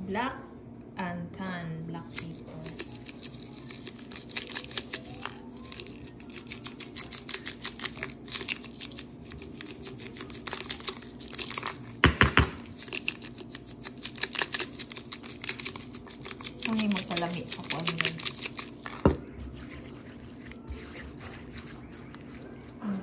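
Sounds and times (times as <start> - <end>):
pepper grinder grinding: 2.1 - 23.0.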